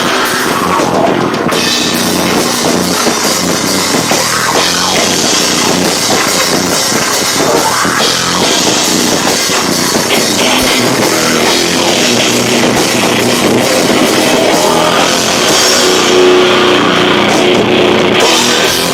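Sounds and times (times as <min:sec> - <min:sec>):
loud distorted rock band: 0:00.0 - 0:18.9.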